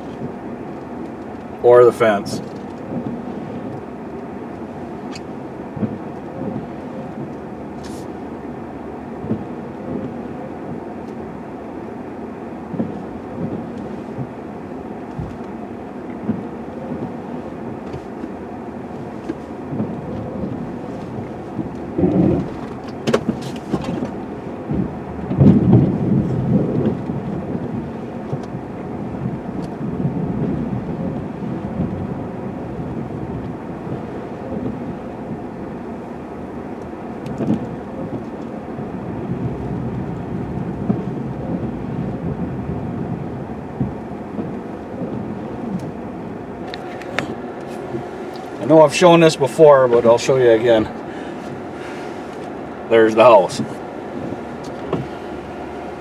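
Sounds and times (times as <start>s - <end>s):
truck engine rumble: 0.0s - 56.0s.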